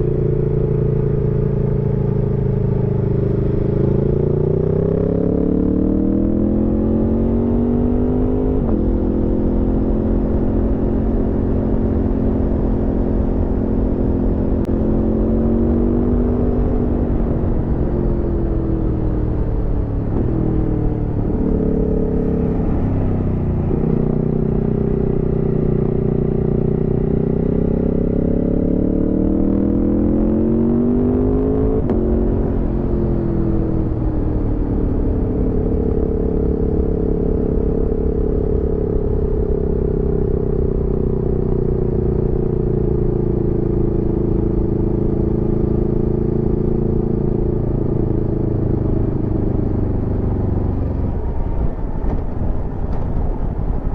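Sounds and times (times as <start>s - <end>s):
motorcycle engine revving: 2.9s - 53.9s.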